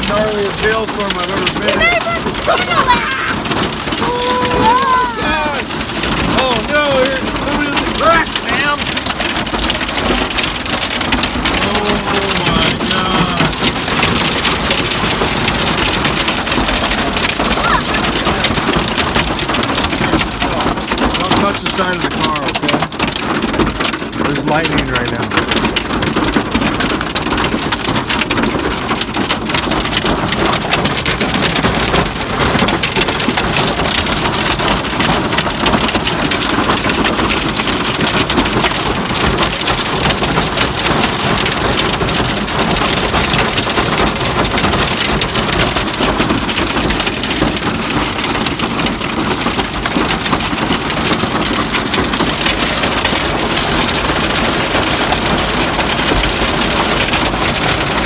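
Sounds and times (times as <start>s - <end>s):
hail pelting car roof: 0.0s - 58.0s.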